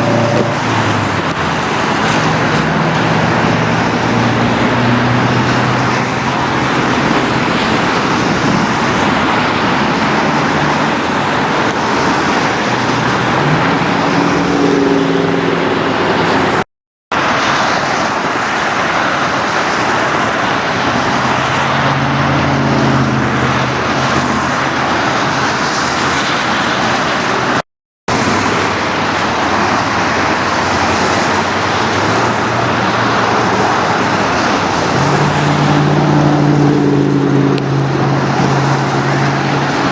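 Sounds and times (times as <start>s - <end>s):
vehicles passing by: 0.0s - 39.9s.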